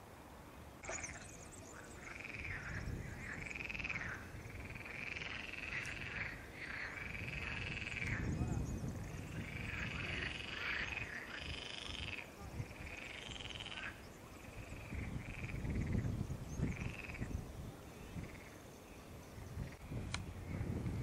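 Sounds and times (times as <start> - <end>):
frogs croaking: 0.8 - 21.0.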